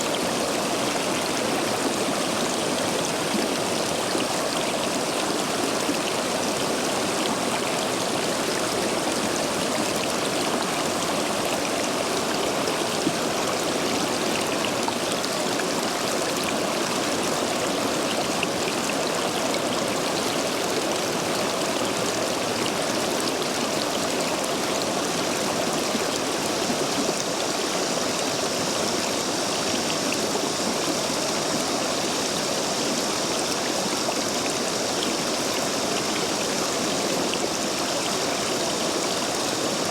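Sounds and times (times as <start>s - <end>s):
stream water rushing over stones: 0.0s - 39.9s.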